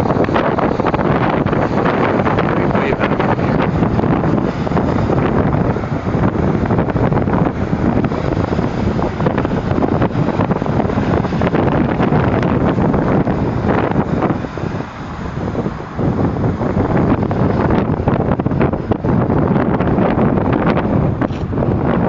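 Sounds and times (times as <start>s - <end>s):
waves washing against shore: 0.0s - 22.0s
wind buffeting microphone: 0.0s - 22.0s.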